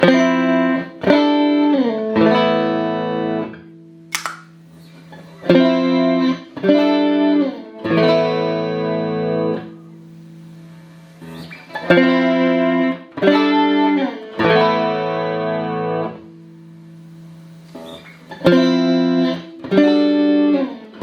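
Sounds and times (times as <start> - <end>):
clean electric guitar with chorus: 0.0 - 21.0.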